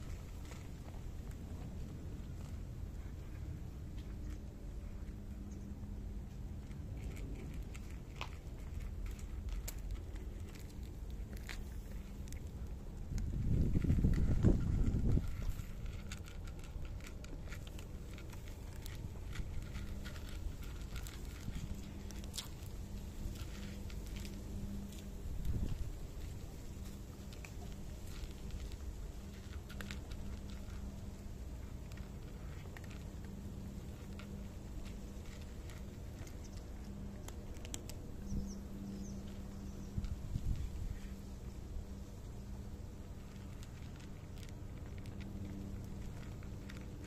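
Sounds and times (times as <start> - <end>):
cats crunching dry kibble: 0.0 - 47.0.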